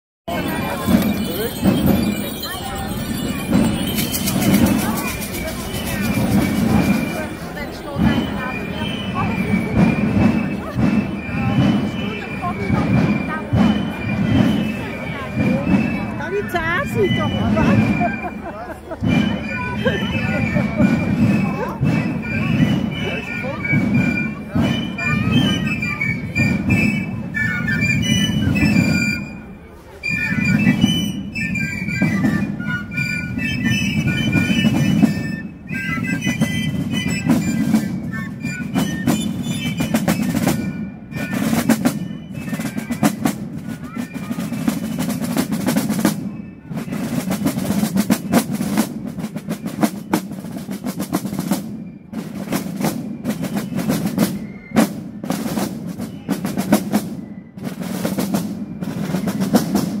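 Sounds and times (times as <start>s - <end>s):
rapid snare drumming with rolls: 0.3s - 18.4s, 19.0s - 29.2s, 30.2s - 60.0s
piccolo melody: 0.3s - 51.6s.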